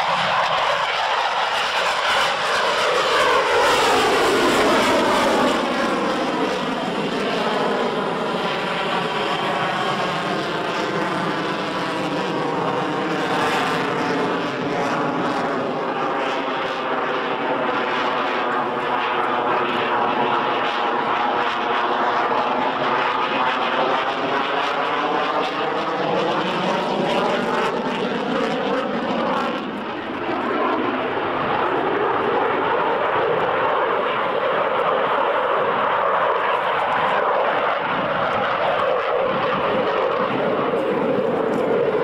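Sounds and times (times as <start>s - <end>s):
jet fighter roar overhead: 0.0s - 42.0s.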